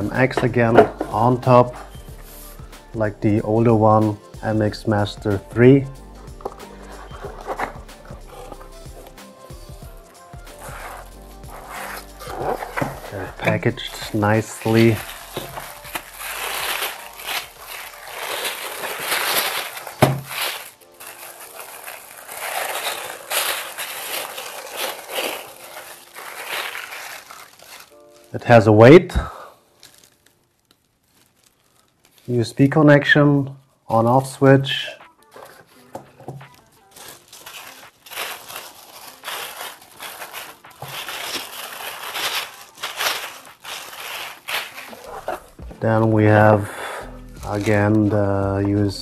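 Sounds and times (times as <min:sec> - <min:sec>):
wrapping crinkling and rustling: 0:00.0 - 0:46.7, 0:47.4 - 0:49.0.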